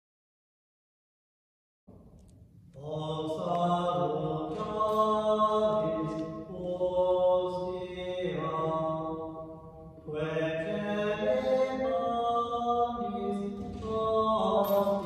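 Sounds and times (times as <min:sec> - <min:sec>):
slow devotional chant: 0:02.7 - 0:15.0.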